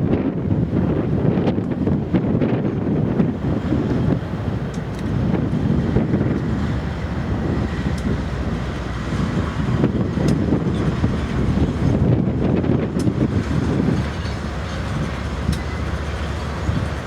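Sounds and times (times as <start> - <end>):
diesel locomotives rumbling: 0.0 - 17.0
wind buffeting microphone: 0.0 - 17.0.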